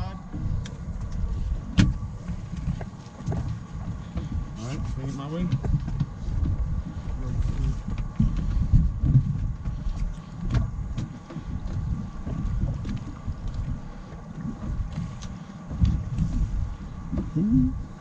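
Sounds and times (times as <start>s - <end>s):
faint high hum: 0.0s - 18.0s
wind buffeting microphone: 0.0s - 18.0s.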